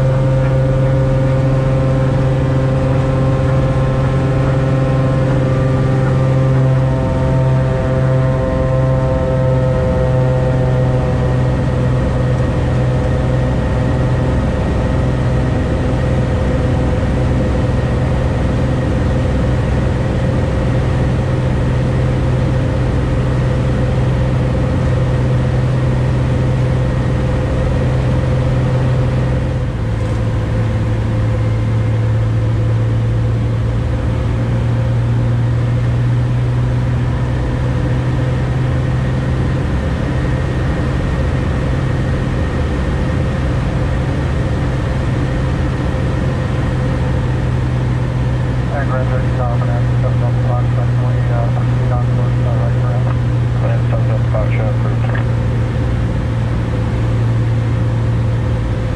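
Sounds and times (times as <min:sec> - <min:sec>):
aircraft engine and propeller droning: 0:00.0 - 0:58.9.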